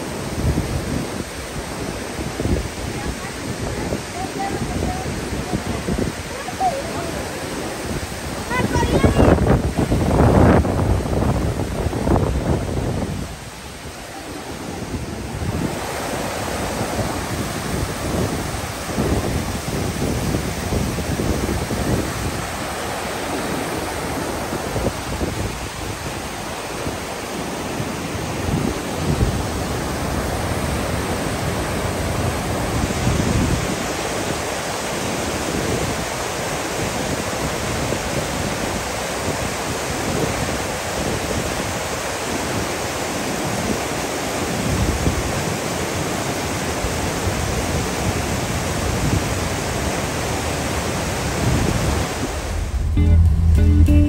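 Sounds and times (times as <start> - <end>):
creek rushing over boulders: 0.0 - 53.0
wind buffeting microphone: 0.0 - 53.6.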